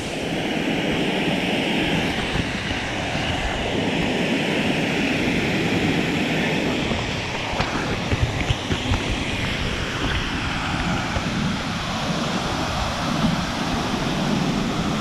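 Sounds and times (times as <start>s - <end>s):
small waterfall rushing: 0.0s - 15.0s.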